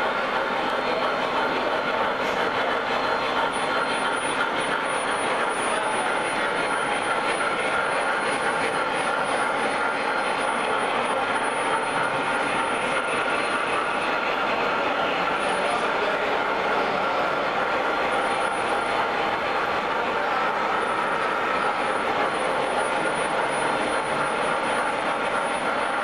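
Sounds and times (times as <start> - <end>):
model train wheels rumbling on rails: 0.0 - 26.0.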